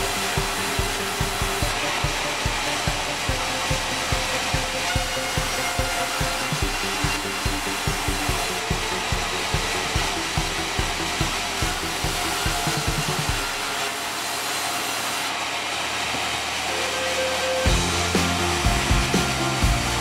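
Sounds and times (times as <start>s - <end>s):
band saw whining: 0.0s - 20.0s.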